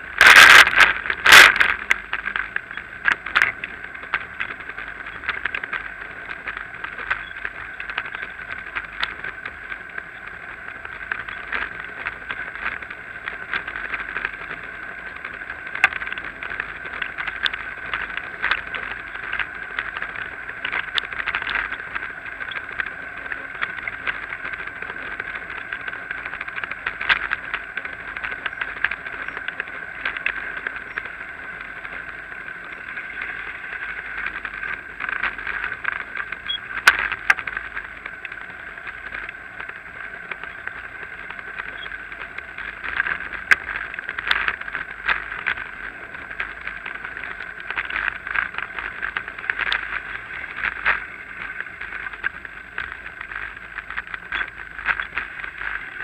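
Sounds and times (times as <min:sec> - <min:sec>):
bicycle rattling over paving: 0:00.0 - 0:56.0.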